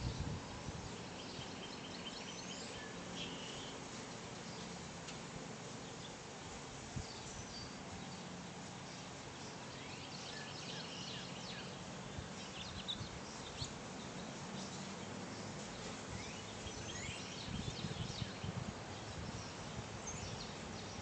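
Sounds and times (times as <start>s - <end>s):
small birds chirping: 0.0s - 21.0s
steady background hiss: 0.0s - 21.0s.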